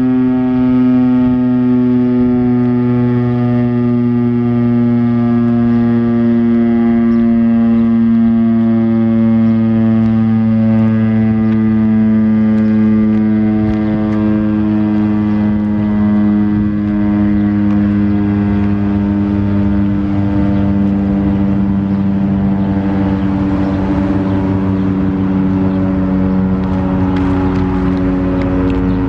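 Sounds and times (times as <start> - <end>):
warning siren low growl: 0.0 - 29.0.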